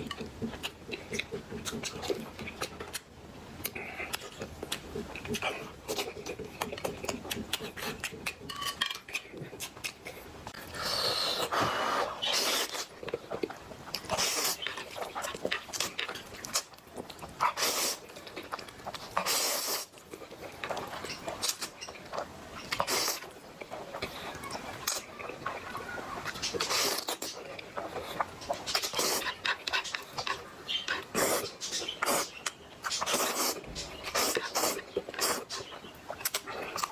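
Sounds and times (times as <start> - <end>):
wet chewing and lip-smacking: 0.0 - 11.5, 12.2 - 36.9.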